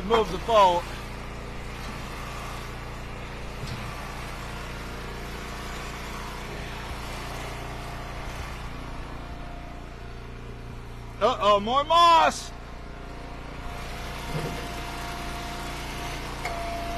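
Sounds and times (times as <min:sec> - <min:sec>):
wood splitter engine running: 0:00.0 - 0:16.9.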